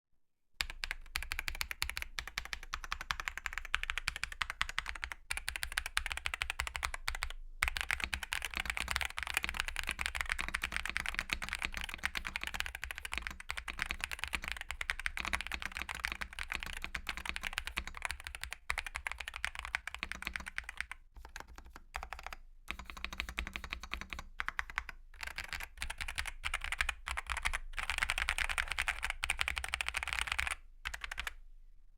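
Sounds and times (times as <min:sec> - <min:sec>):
fast typing on mechanical keyboard: 0:00.6 - 0:31.4.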